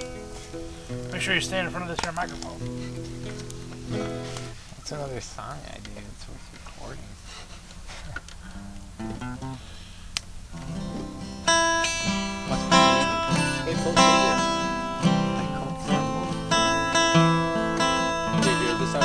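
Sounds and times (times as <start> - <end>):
acoustic guitar strumming chords: 0.0 - 4.9, 8.6 - 19.0.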